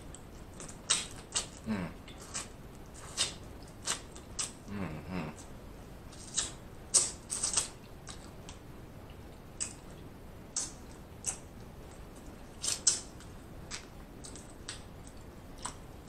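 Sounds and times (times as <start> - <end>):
crab shell crackling while eating: 0.0 - 16.0.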